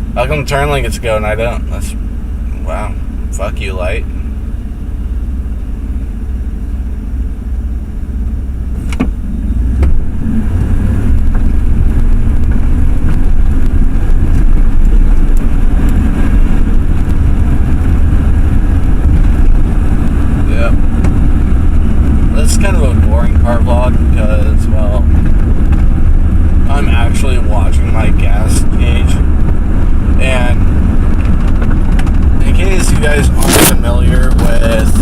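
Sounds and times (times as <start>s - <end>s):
truck engine and tyres rumbling: 0.0s - 35.0s.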